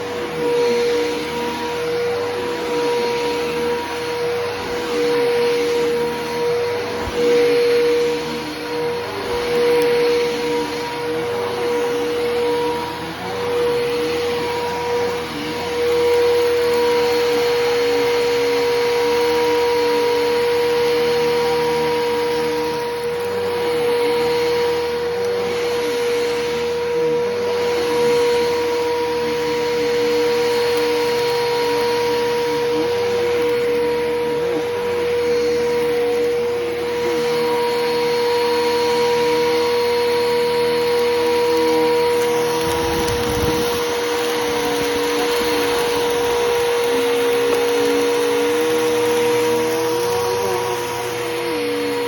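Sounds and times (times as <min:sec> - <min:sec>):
upright vacuum cleaner running: 0:00.0 - 0:52.0.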